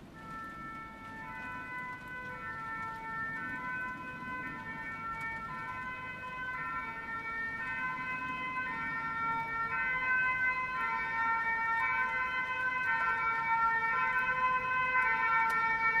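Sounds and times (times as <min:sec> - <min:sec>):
two-tone emergency siren: 0:00.0 - 0:16.0.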